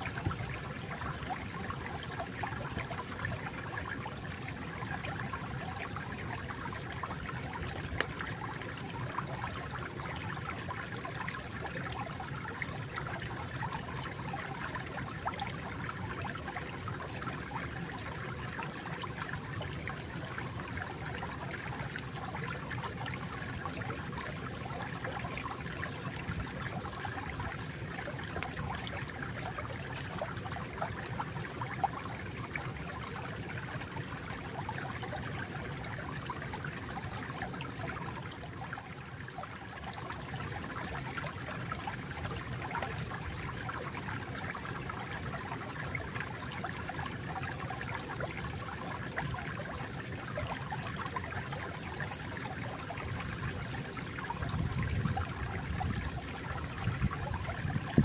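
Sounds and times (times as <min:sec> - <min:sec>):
small water splashes: 0:00.0 - 0:58.0
water flowing and trickling: 0:00.0 - 0:58.0.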